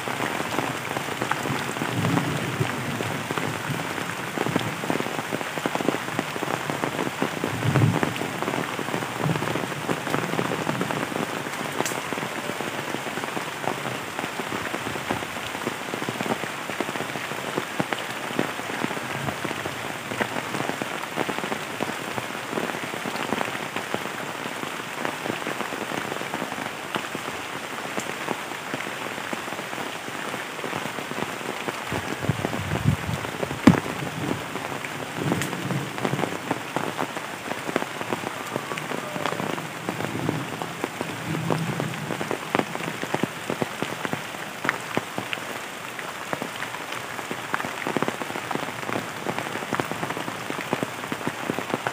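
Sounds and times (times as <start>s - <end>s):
heavy rain on leaves: 0.0s - 51.9s.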